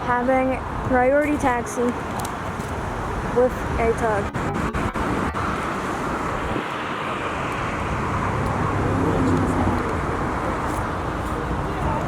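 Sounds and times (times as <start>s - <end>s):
jet engines roaring: 0.7s - 12.0s.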